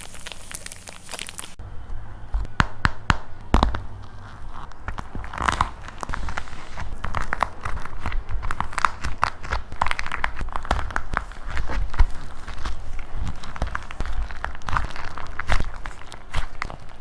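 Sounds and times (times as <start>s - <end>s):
dried clay crunching and crackling: 0.0s - 17.0s.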